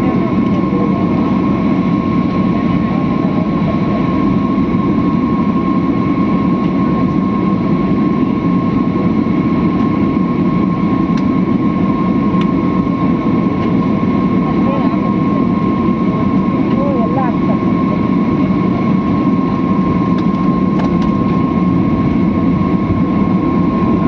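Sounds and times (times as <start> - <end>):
airliner cabin engine drone: 0.0 - 24.0
constant high whine: 0.0 - 24.0.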